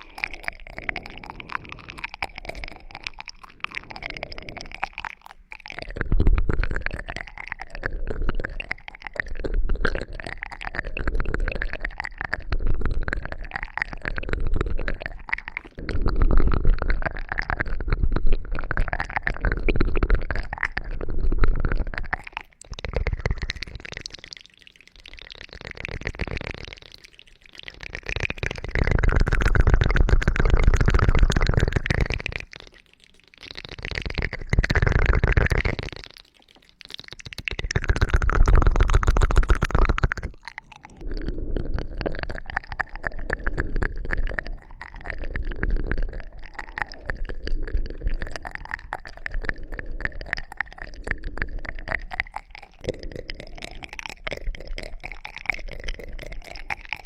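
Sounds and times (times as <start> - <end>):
crackling and rubbing on microphone: 0.0 - 57.0.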